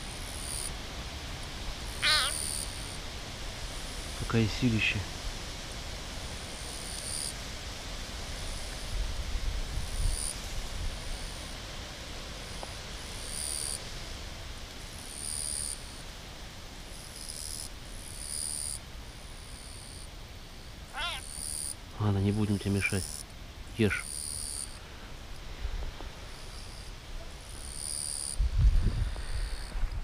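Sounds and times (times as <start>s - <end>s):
insects chirping: 0.0s - 30.0s
steady hiss: 0.0s - 30.0s.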